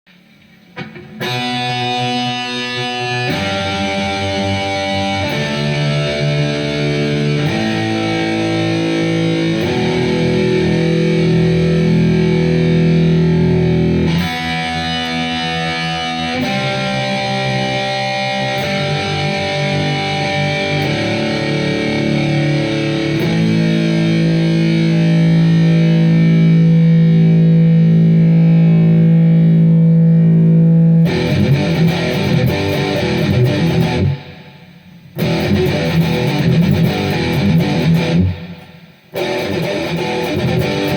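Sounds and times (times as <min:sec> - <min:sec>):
distorted electric guitar riff: 0:00.1 - 0:40.9.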